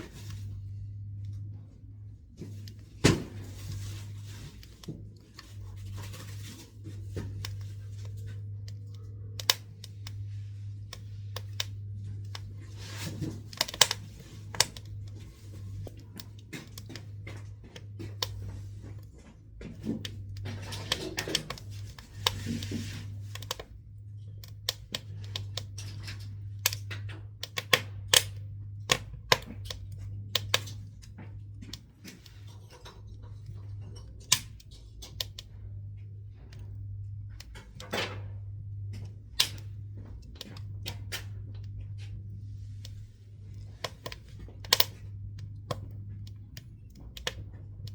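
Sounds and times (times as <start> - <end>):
steady low hum: 0.0 - 47.9
wood fire crackling and popping: 2.4 - 47.9.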